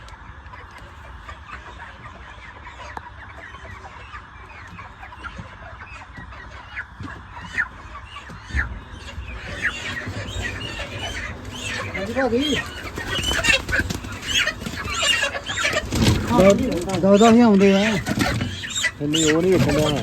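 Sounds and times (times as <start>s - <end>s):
chickens clucking: 0.0s - 20.0s
chicken squawks: 0.8s - 20.0s.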